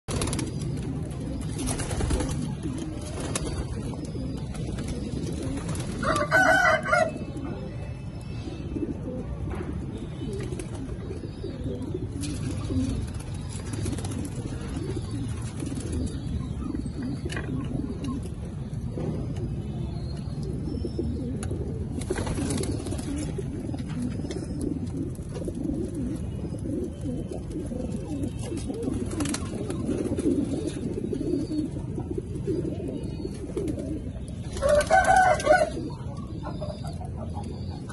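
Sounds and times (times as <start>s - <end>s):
pigeons cooing: 0.1s - 37.9s.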